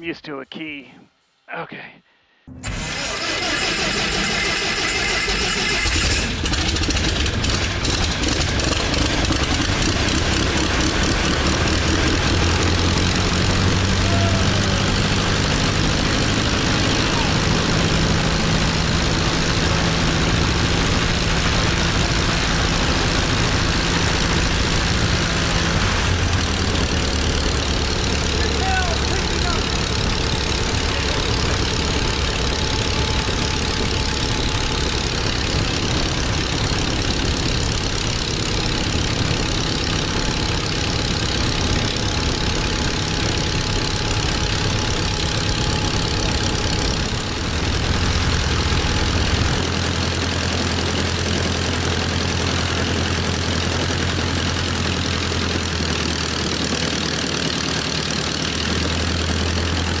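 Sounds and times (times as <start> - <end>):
aircraft engine idling: 2.6 - 60.0.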